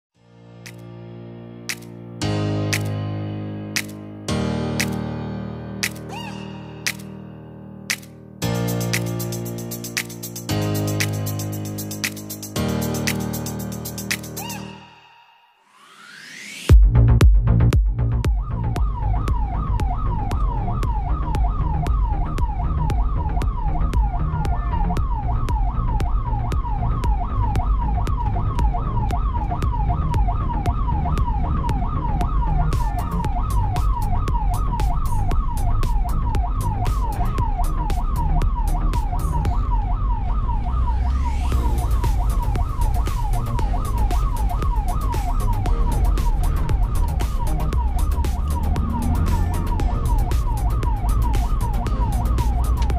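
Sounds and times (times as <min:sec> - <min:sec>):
music with steady beat: 0:00.6 - 0:14.7, 0:16.7 - 0:39.9, 0:41.4 - 0:52.9
ambulance siren yelping: 0:06.1 - 0:07.1, 0:08.5 - 0:15.6, 0:18.1 - 0:52.9.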